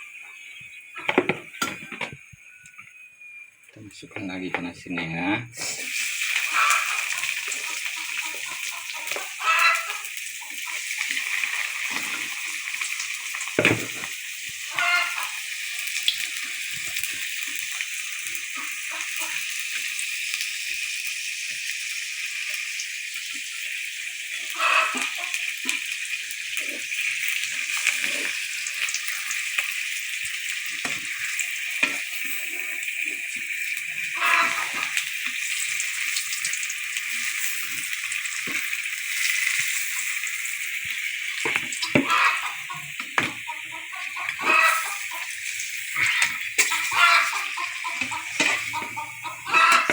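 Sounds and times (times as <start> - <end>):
food sizzling in a pan: 0.0 - 3.5, 4.9 - 49.9.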